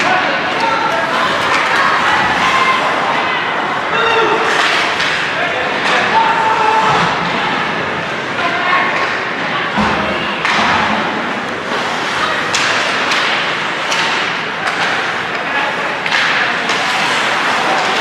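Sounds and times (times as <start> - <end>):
crowd din of voices: 0.0 - 18.0.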